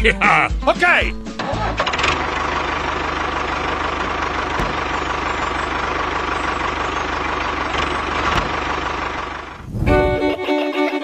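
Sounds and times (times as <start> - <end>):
tractor engine chugging: 0.8 - 10.4.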